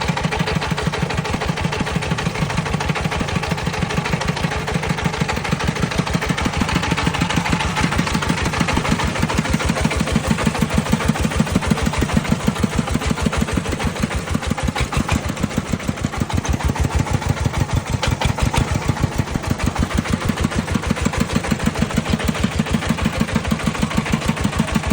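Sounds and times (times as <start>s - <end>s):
farm vehicle engine chugging: 0.0s - 24.9s.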